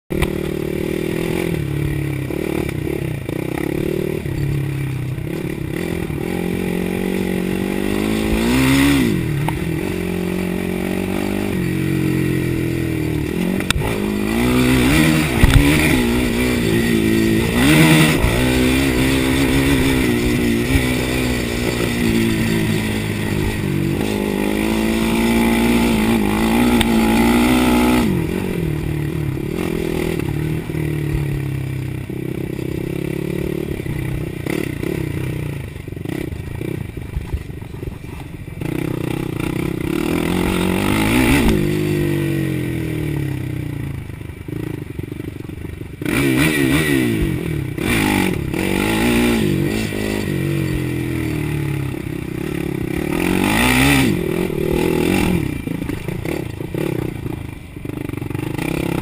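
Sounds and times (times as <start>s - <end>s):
quad bike engine revving: 0.1s - 59.0s.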